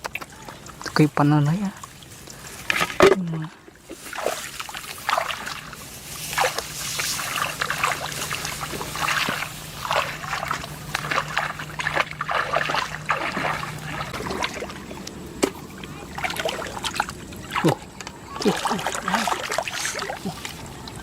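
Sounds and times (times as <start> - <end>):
steady low hum: 0.0 - 21.0
water sloshing and splashing: 0.0 - 21.0.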